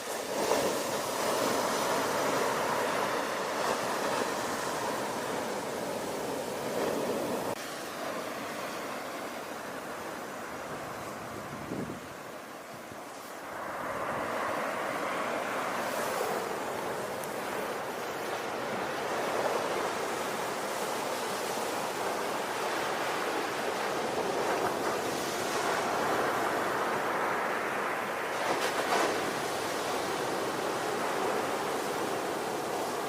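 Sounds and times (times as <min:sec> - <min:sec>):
ocean waves washing on shore: 0:00.0 - 0:33.0.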